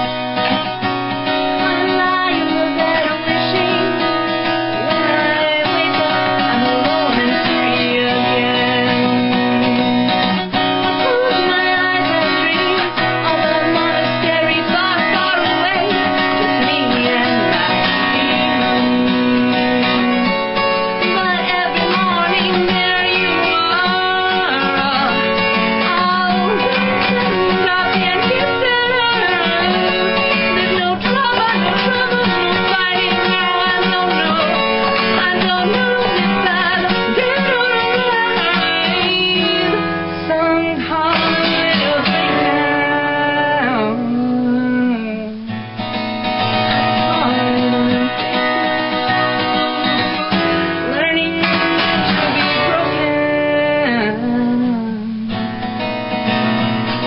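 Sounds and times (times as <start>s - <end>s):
acoustic guitar strumming: 0.0s - 57.0s
woman singing: 0.0s - 57.0s.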